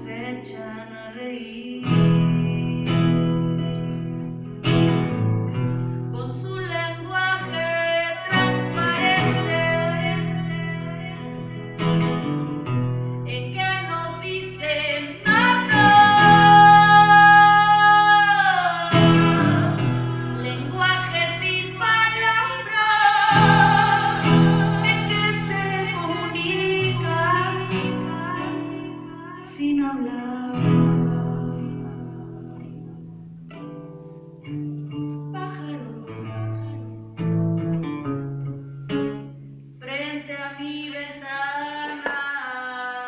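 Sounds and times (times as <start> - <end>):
woman singing: 0.0 - 4.3, 6.1 - 11.9, 13.3 - 33.1, 35.2 - 36.9, 39.8 - 43.0
guitar accompaniment: 0.0 - 43.0.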